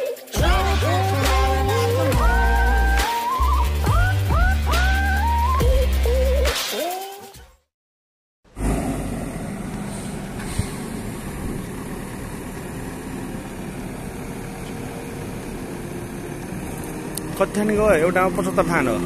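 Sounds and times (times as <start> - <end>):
diesel engine running: 0.4 - 6.3, 8.5 - 19.0.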